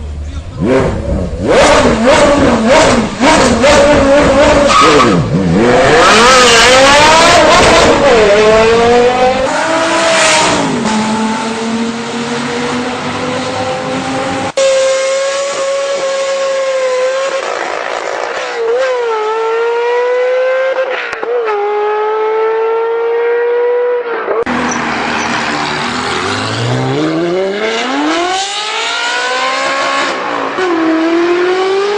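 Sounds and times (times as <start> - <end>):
car engine shifting gears: 0.3 - 31.9.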